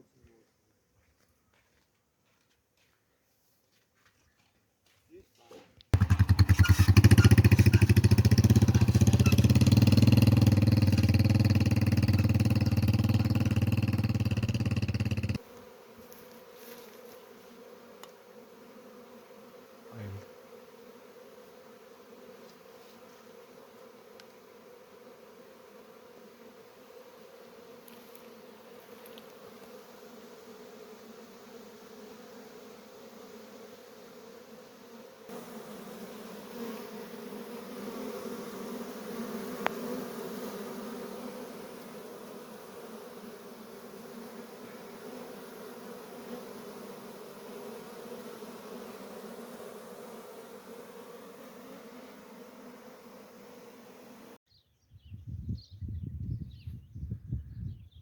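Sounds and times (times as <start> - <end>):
honeybees buzzing: 6.0 - 54.4.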